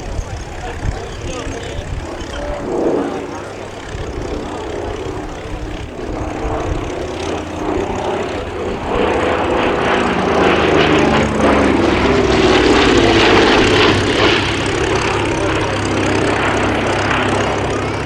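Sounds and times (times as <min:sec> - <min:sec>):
propeller aircraft engines in flight: 0:00.0 - 0:18.0.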